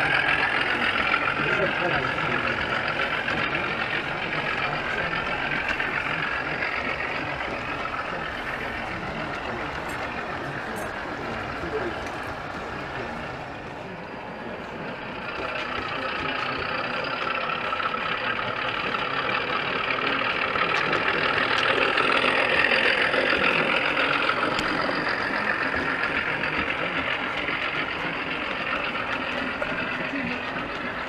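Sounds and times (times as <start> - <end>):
faint voices: 0.0 - 31.0
model train wheels rumbling on rails: 0.0 - 31.0.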